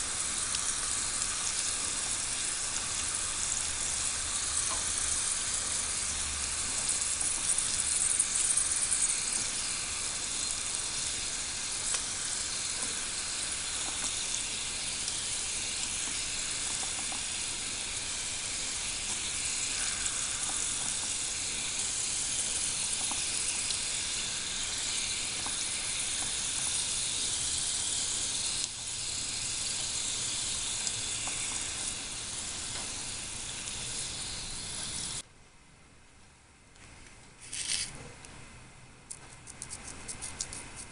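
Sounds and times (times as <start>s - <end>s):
hot oil sizzling: 0.0s - 35.2s.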